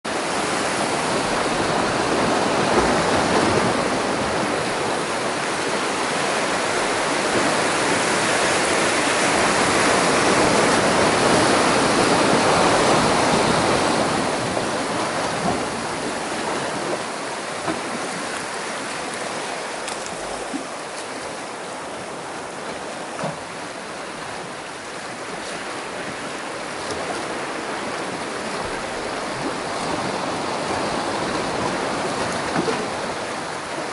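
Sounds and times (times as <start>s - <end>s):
sea waves washing over rocks: 0.1s - 33.9s.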